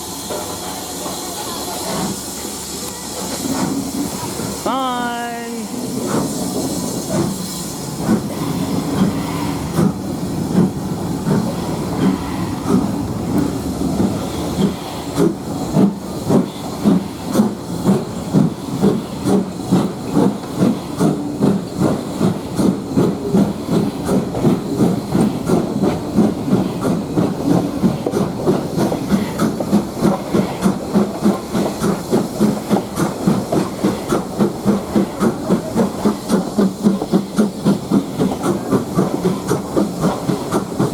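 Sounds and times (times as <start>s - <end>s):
steam hissing: 0.0s - 40.9s
steam locomotive chuffing: 0.0s - 40.9s.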